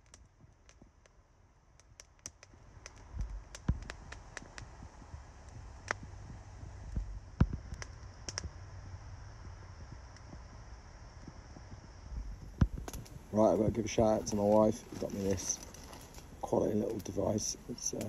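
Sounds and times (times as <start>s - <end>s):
wood fire crackling and popping: 0.0s - 18.0s
low rumble: 2.6s - 17.8s.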